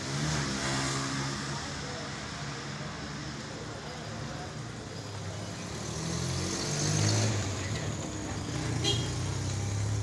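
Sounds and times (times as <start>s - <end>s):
vehicle running with road noise: 0.0s - 10.0s.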